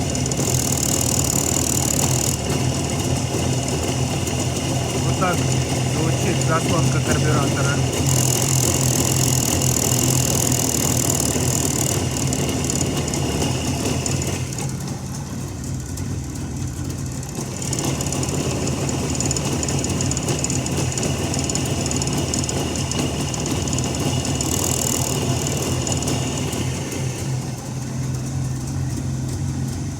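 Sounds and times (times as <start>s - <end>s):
metallic rattle of throttle slide: 0.0s - 29.9s
motorcycle engine idling: 0.0s - 29.9s.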